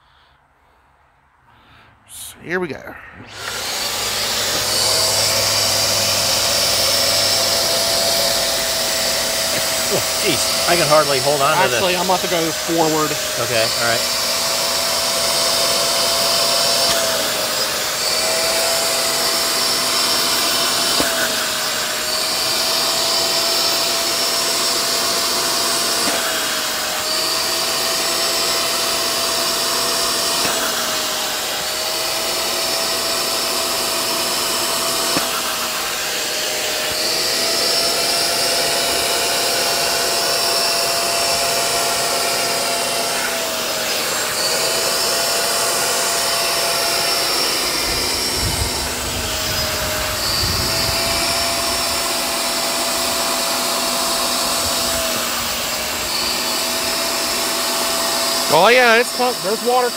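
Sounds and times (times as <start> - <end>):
spot cleaner suction motor whine: 3.2 - 59.9.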